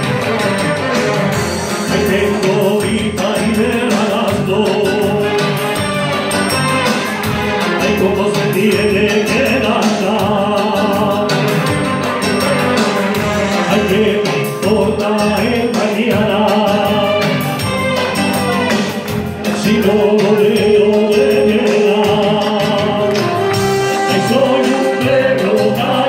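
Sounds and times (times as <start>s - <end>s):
backing music: 0.0s - 26.0s
man singing into microphone: 1.7s - 6.0s, 7.5s - 17.8s, 19.4s - 26.0s.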